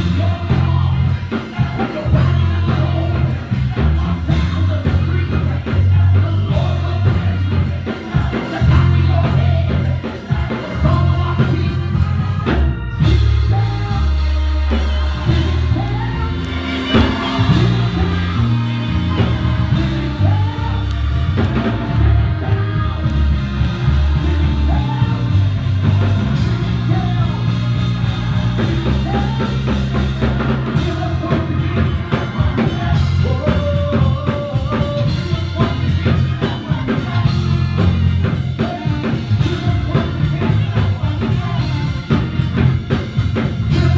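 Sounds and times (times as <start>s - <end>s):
drums: 0.0s - 43.9s
heavy bass line: 0.0s - 43.9s
singing: 0.0s - 43.9s
worship band playing: 0.0s - 43.9s.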